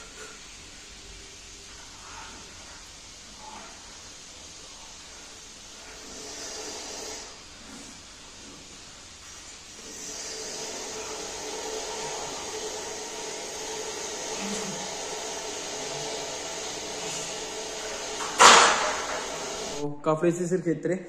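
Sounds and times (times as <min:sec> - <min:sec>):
fan whooshing hum: 0:00.0 - 0:20.8.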